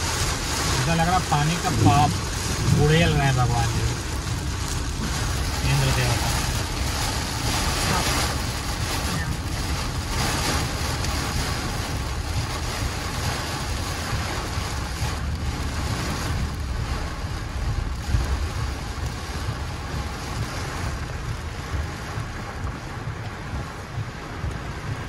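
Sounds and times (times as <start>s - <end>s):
low rumble of wind and tyres: 0.0s - 25.0s
rain pouring on car roof: 0.0s - 25.0s.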